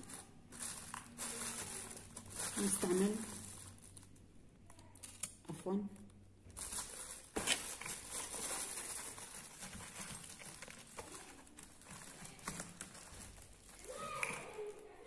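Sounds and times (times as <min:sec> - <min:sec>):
plastic parts rattling: 0:00.0 - 0:04.2, 0:06.5 - 0:15.0.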